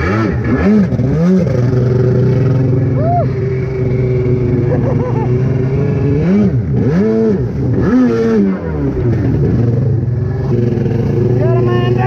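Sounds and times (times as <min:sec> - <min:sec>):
jet ski engine revving: 0:00.0 - 0:12.0.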